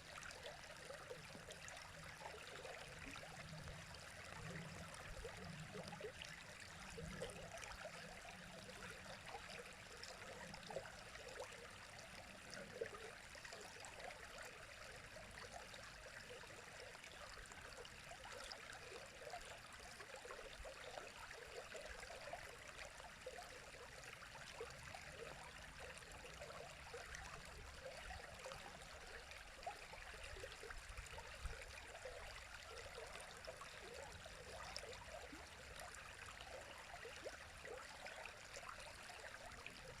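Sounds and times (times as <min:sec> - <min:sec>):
river water flowing: 0:00.0 - 0:40.0.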